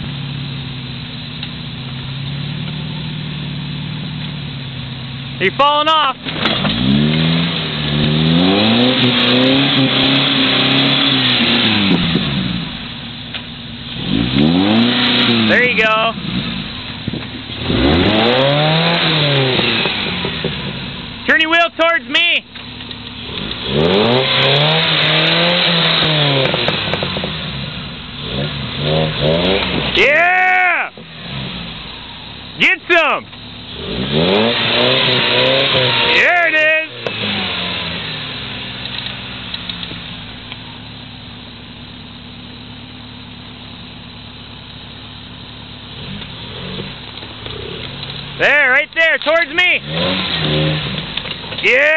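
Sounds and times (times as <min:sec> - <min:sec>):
truck engine revving: 0:01.4 - 0:40.8, 0:45.5 - 0:51.9.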